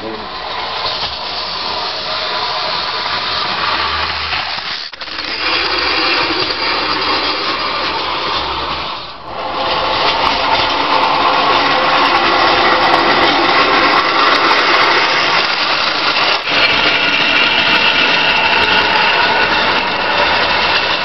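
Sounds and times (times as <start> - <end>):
toy train rattling on metal track: 0.0 - 21.0.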